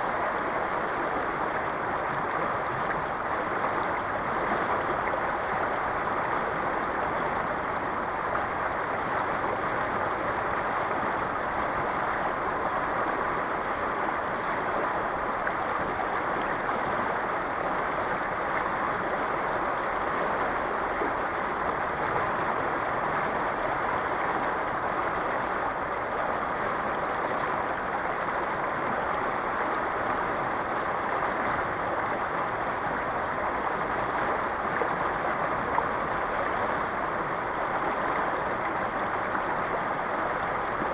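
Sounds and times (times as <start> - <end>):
river current flowing: 0.0 - 40.9.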